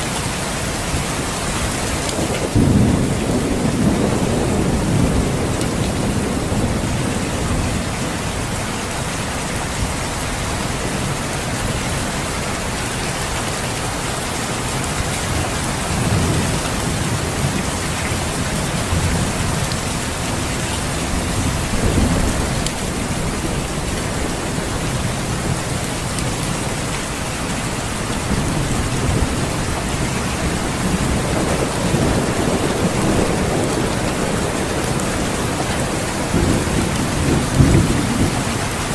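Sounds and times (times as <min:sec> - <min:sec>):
steady rain falling: 0:00.0 - 0:38.9
thunder rolling: 0:02.0 - 0:10.0, 0:15.3 - 0:38.9.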